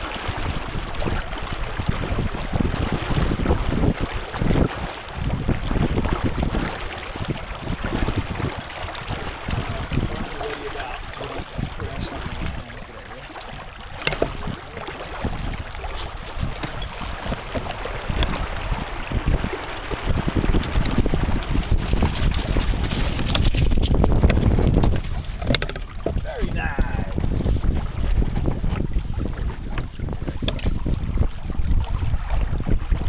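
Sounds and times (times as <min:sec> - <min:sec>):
water noise: 0:00.0 - 0:33.0
wind buffeting microphone: 0:00.0 - 0:33.0.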